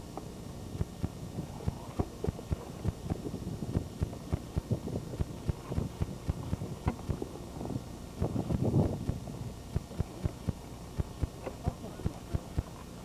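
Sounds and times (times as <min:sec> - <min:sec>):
wind rumble on microphone: 0:00.8 - 0:13.0.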